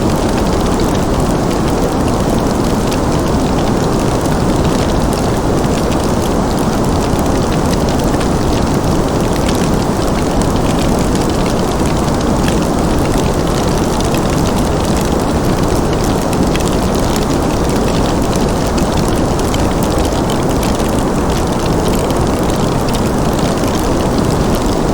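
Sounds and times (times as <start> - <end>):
fire crackling: 0.0 - 24.9.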